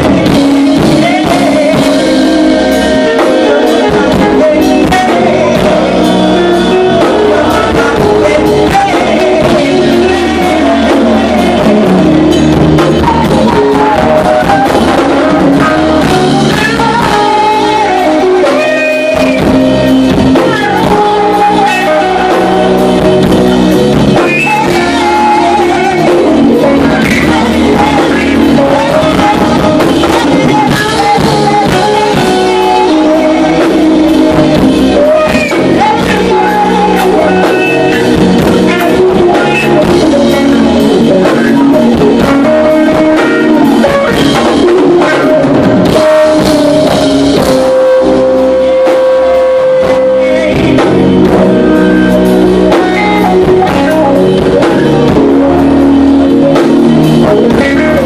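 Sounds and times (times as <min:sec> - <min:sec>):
live rock band with vocals: 0:00.0 - 0:58.0.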